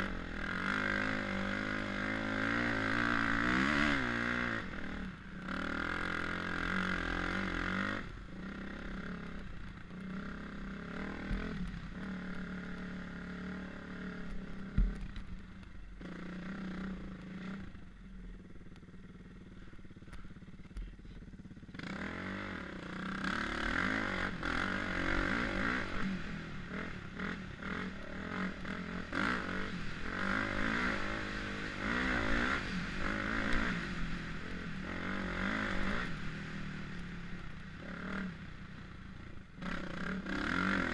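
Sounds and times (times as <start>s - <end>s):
dirt bike engine revving: 0.0s - 15.1s, 21.7s - 40.9s.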